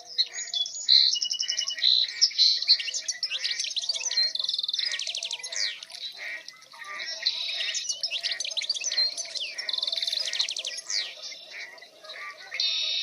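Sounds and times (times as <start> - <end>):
songbirds singing and chirping: 0.0 - 13.0.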